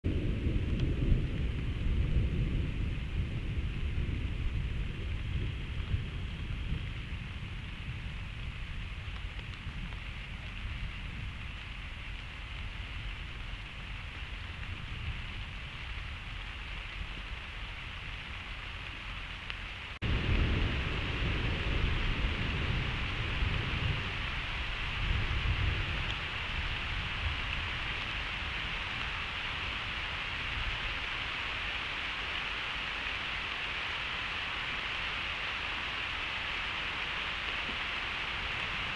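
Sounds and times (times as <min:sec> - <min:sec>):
thunder rumbling: 0:00.0 - 0:38.9
rain hiss: 0:00.1 - 0:38.9.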